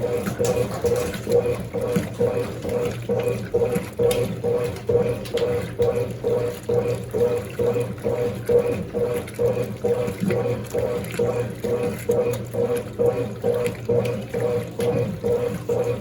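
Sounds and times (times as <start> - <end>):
washing machine motor pulsing: 0.0 - 16.0
water sloshing: 0.0 - 16.0.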